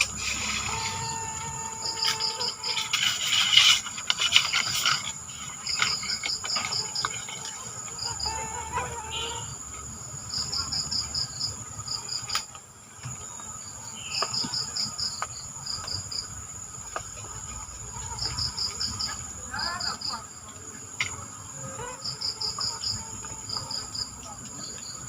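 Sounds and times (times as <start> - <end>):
insects droning: 0.0 - 25.0
rapid insect chirps: 0.0 - 25.0.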